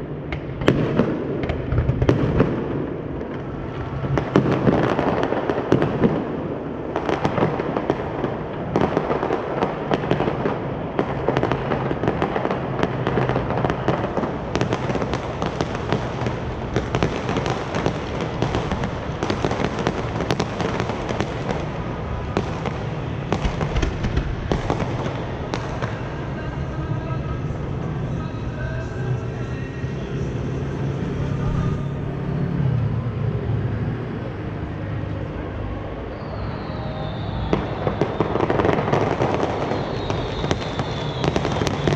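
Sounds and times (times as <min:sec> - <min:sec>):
fireworks bangs and crackle: 0:00.0 - 0:32.0, 0:32.6 - 0:41.9.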